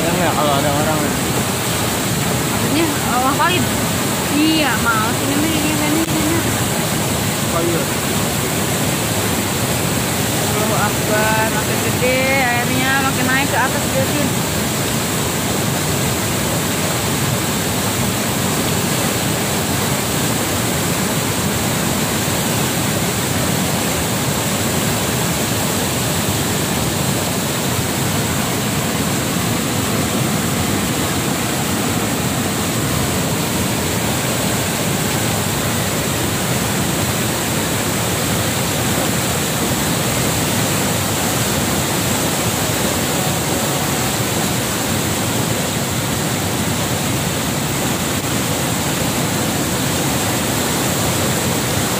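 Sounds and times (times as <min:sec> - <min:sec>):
flooded river rushing: 0:00.0 - 0:51.9.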